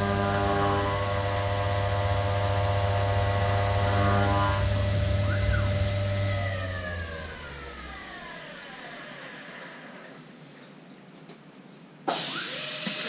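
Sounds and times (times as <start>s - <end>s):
milling machine spindle whine: 0.0s - 10.4s, 12.2s - 13.0s.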